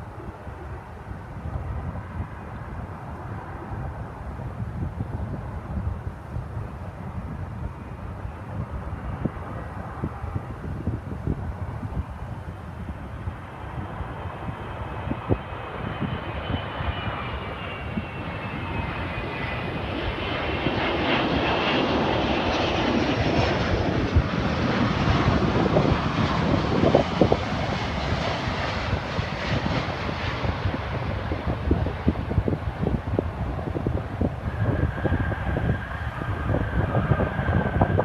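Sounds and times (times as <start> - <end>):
jet airliner engine whine: 0.0 - 38.0
wind buffeting microphone: 0.0 - 38.0.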